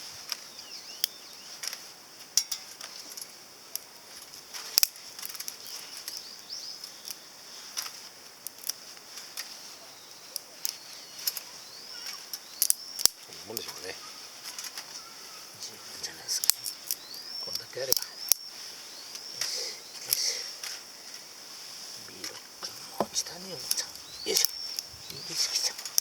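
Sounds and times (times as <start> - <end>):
wood fire crackling and popping: 0.0 - 15.1, 16.3 - 18.5, 22.0 - 26.0
fire hissing: 0.0 - 26.0.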